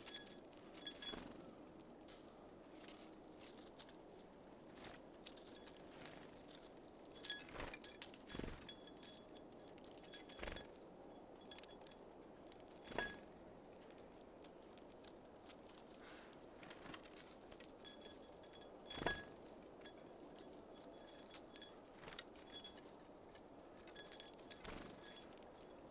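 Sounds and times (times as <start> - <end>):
birds pecking at seeds: 0.0 - 25.9.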